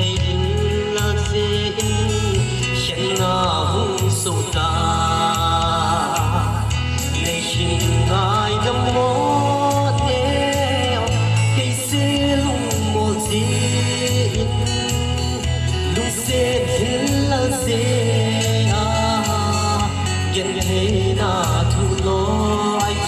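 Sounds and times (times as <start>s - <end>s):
gospel song with singing voice: 0.0s - 23.0s
steady bass line: 0.0s - 23.0s.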